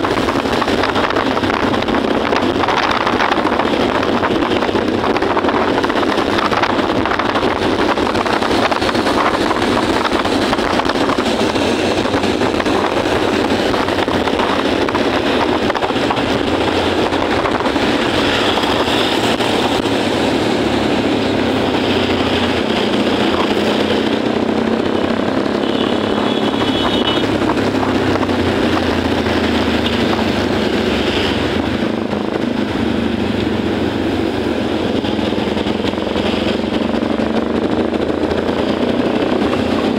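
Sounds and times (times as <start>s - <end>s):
motorbike engine: 0.0s - 39.9s
wind noise on microphone: 0.0s - 39.9s.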